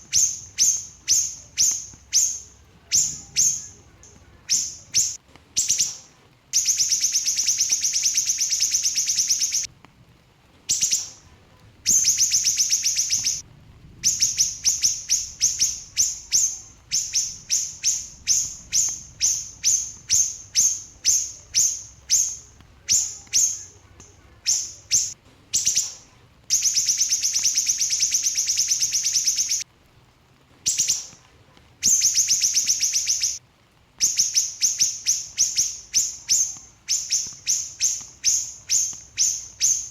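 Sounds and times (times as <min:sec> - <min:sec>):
bird chirping rapidly: 0:00.0 - 0:09.7, 0:10.7 - 0:11.2, 0:11.9 - 0:13.4, 0:14.0 - 0:29.6, 0:30.7 - 0:31.2, 0:31.8 - 0:33.4, 0:34.0 - 0:39.9.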